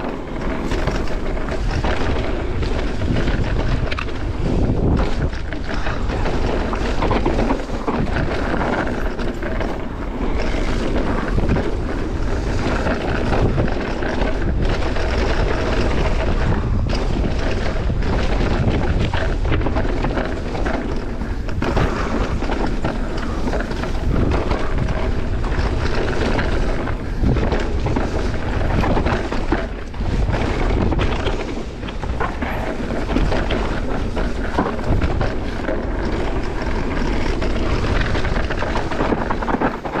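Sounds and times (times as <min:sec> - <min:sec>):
bike clattering over bumps: 0:00.0 - 0:40.0
tyres rolling over dirt and rock: 0:00.0 - 0:40.0
wind rushing over microphone: 0:00.0 - 0:40.0.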